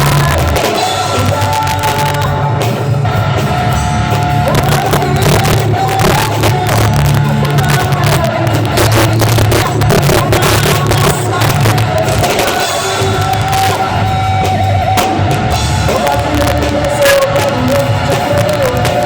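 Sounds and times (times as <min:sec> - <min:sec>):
band playing worship song: 0:00.0 - 0:19.0
drum kit with cymbals: 0:00.0 - 0:19.0.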